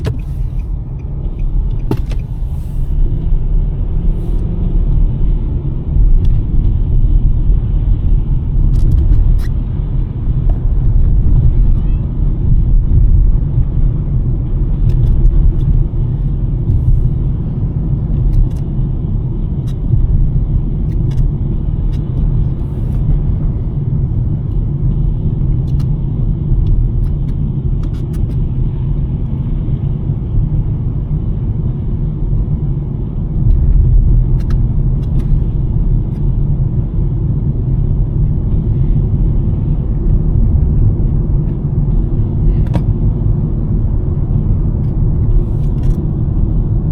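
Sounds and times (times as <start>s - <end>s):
car engine and tyre rumble: 0.0s - 46.9s.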